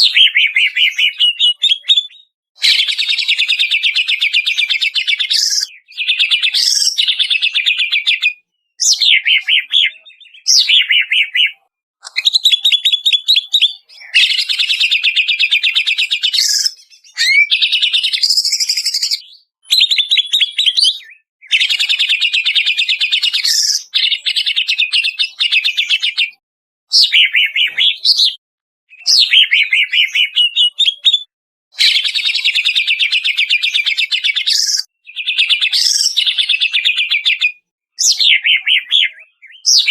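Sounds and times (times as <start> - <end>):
bird song with trills and whistles: 0.0 - 39.9.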